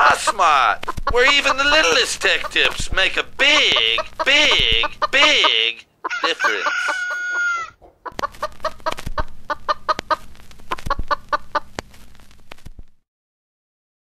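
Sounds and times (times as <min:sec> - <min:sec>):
chicken clucking: 0:00.0 - 0:11.7.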